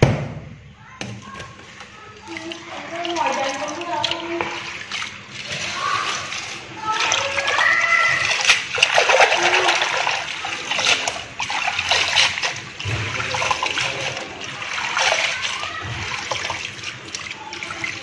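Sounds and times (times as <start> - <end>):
water splashing in a basin: 0.8 - 18.0.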